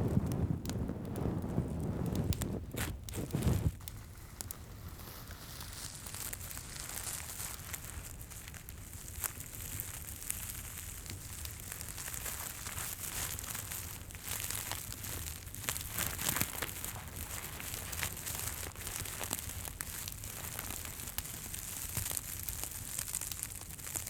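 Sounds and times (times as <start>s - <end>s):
crackling and crinkling: 0.0s - 24.0s
soft hiss: 0.0s - 24.0s.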